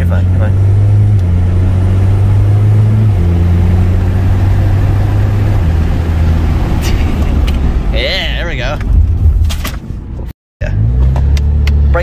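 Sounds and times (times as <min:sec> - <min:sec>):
car engine pulling: 0:00.0 - 0:10.0.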